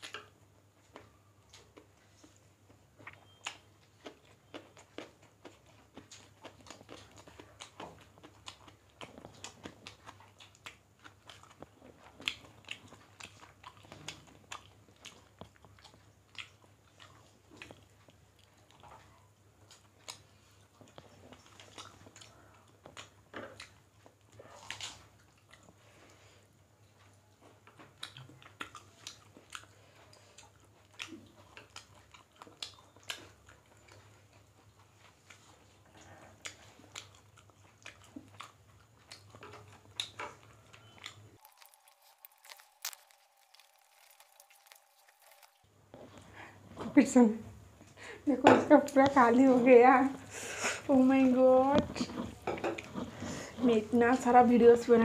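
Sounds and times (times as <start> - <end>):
people chewing and eating: 0.0 - 55.0.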